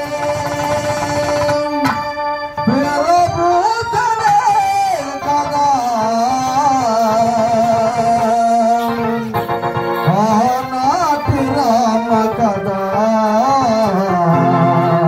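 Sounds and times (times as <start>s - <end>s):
man singing into a microphone: 0.0s - 15.0s
musical accompaniment: 0.0s - 15.0s.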